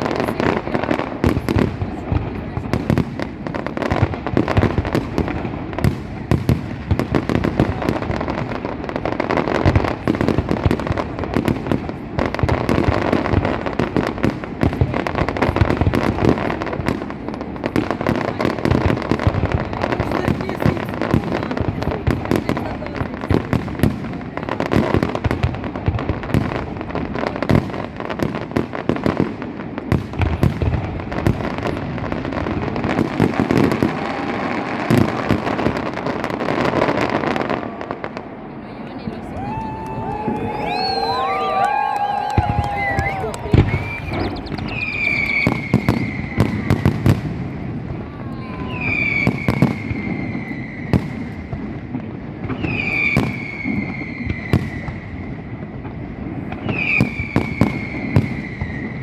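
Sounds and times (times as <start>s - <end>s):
fireworks bangs and cracks: 0.0s - 59.0s.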